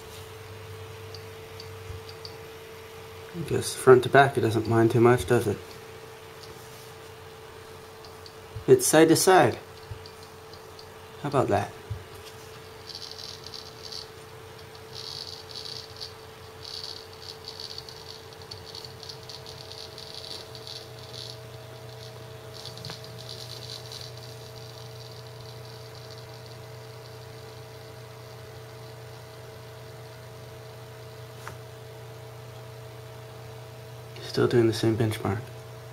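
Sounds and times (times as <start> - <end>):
hard drive seeking chatter: 0.0 - 35.9
steady hum: 0.0 - 35.9.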